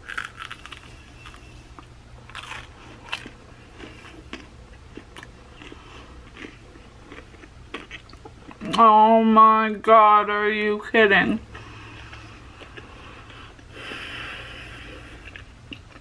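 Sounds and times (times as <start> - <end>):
crunchy bread chewing: 0.0 - 8.7, 11.9 - 16.0.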